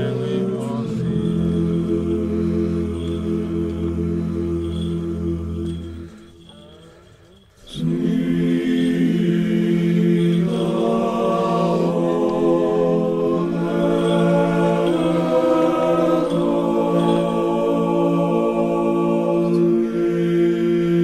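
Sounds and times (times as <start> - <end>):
choir singing a chant: 0.0 - 6.2, 7.7 - 21.0.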